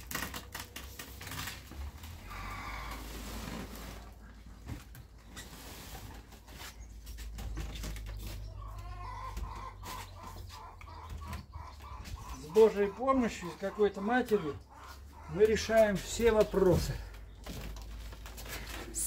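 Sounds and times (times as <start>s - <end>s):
chickens clucking: 2.2s - 18.1s.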